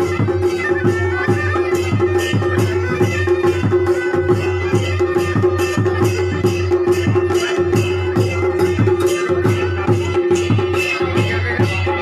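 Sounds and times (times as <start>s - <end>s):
drums beating steady rhythm: 0.0s - 12.0s.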